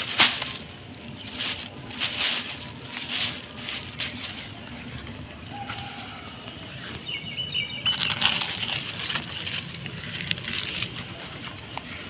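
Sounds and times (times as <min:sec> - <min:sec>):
plastic bags crinkling: 0:00.0 - 0:07.0, 0:07.7 - 0:12.0.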